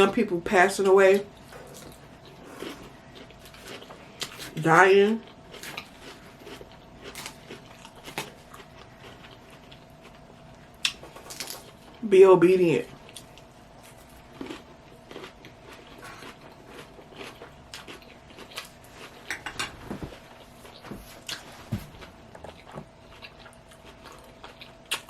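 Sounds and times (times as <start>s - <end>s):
chewing crunchy salad: 0.8s - 12.0s, 12.9s - 25.0s.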